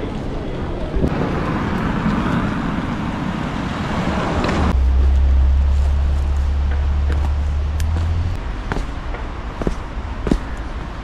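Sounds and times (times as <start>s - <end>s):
vehicle and street noise: 0.0s - 11.0s.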